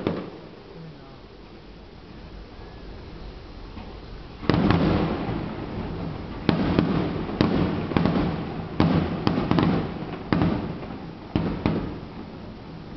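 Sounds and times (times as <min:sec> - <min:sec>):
firework shells bursting: 0:00.0 - 0:00.7, 0:03.2 - 0:12.9.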